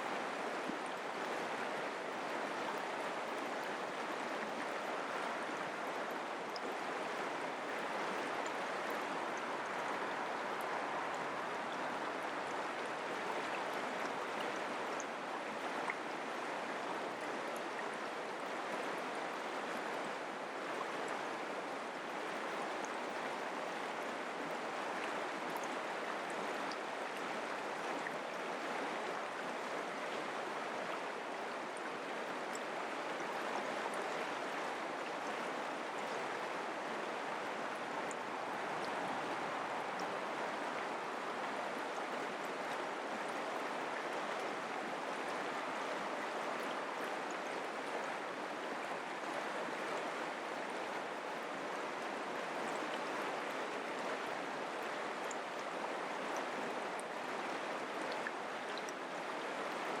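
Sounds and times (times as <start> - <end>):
creek water rushing over stones: 0.0 - 60.0.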